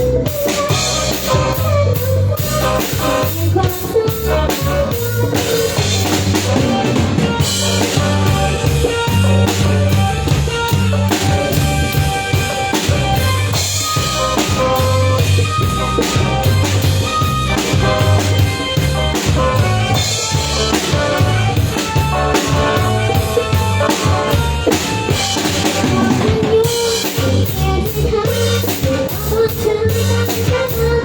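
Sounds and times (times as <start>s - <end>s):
bass drum: 0.0s - 31.0s
bass line: 0.0s - 31.0s
live band playing: 0.0s - 31.0s.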